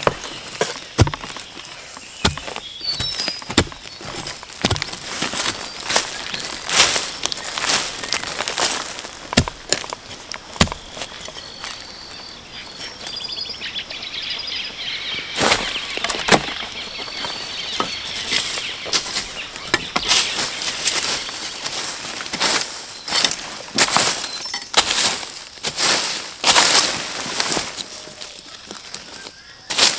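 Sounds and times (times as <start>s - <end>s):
rustling in dry plant litter: 0.0s - 14.2s, 14.9s - 29.9s.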